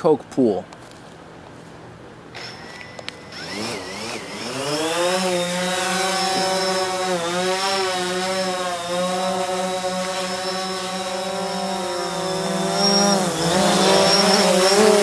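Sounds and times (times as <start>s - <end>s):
drone propellers buzzing: 2.3s - 15.0s.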